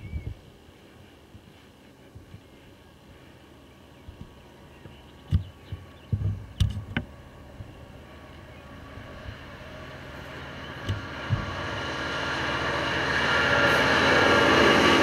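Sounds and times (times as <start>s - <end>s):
diesel locomotive engine hum: 0.0s - 15.0s.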